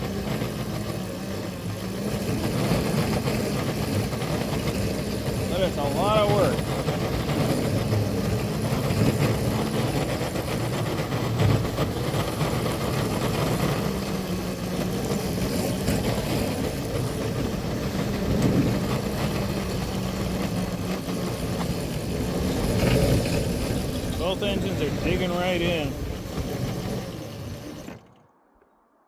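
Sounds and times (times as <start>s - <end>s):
locomotive engine drone: 0.0s - 28.3s.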